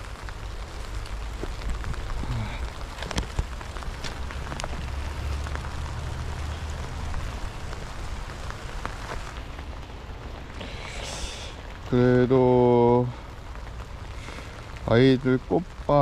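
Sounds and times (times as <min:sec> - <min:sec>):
heavy rain falling: 0:00.0 - 0:16.0
raindrops clicking close by: 0:00.0 - 0:16.0.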